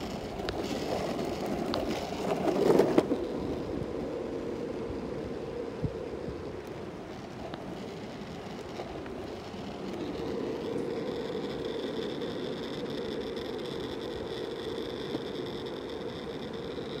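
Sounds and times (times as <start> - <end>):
longboard wheels rolling on asphalt: 0.0 - 17.0.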